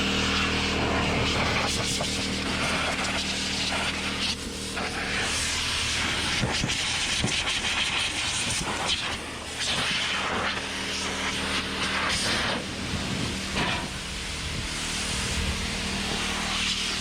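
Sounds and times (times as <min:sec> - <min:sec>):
electric blower motor hum: 0:00.0 - 0:17.0
rush of air from blower: 0:00.0 - 0:17.0.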